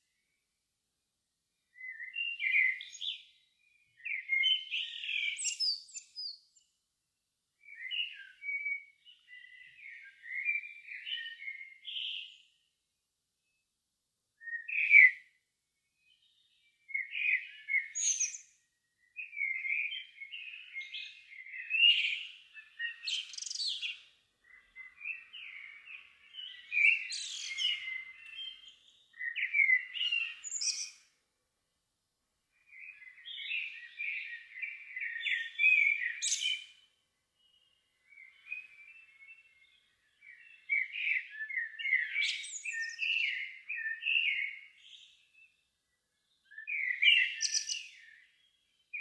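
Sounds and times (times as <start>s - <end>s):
songbird singing: 1.5s - 6.8s, 7.6s - 12.7s, 14.4s - 31.4s, 32.4s - 49.0s.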